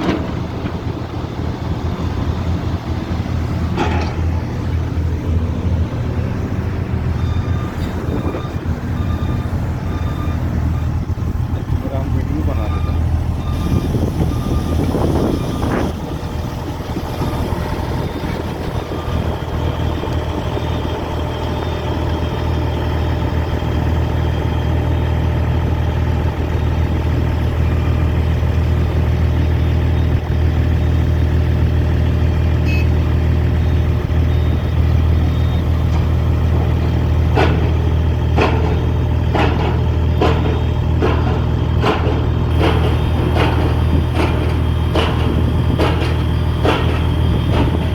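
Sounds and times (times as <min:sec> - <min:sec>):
diesel engine humming: 0:00.0 - 0:47.9.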